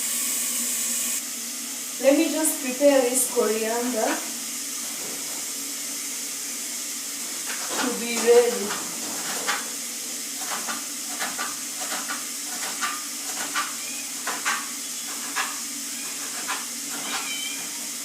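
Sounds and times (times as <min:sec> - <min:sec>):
onions frying sizzle: 0:00.0 - 0:18.0.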